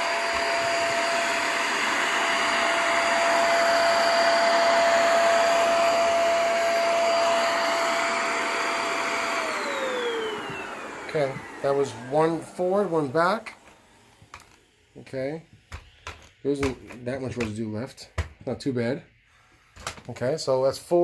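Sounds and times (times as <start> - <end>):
stick vacuum cleaner running: 0.0 - 18.4.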